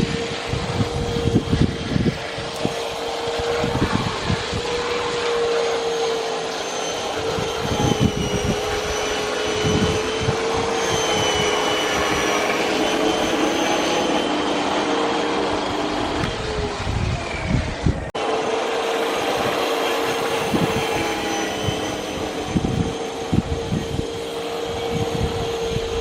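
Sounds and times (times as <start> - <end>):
electric lawn mower motor whine: 0.0 - 26.0.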